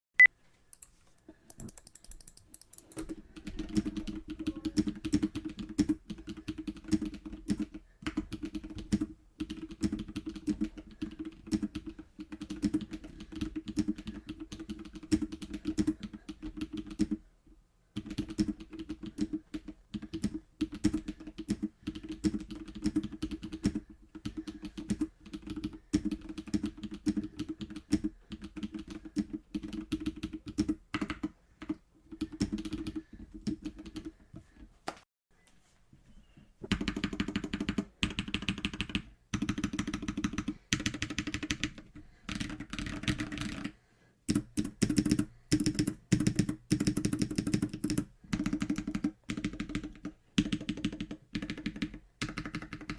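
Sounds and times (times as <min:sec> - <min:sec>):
fast mechanical keyboard typing: 0:01.5 - 0:17.2, 0:18.0 - 0:34.2, 0:36.7 - 0:52.9.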